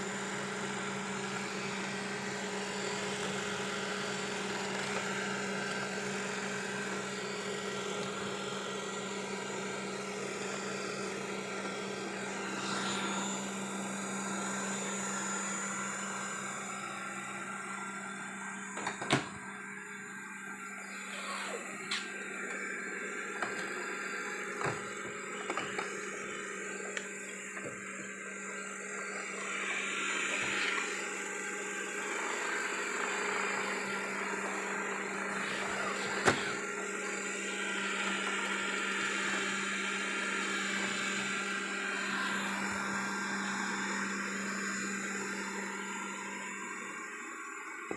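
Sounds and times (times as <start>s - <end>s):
robot vacuum motor hum: 0.0s - 47.9s.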